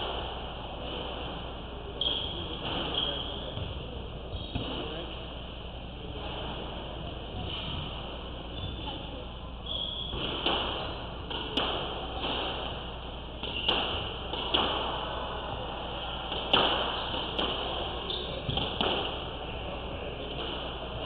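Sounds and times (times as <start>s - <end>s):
squash ball hits with echo: 0.0s - 21.0s.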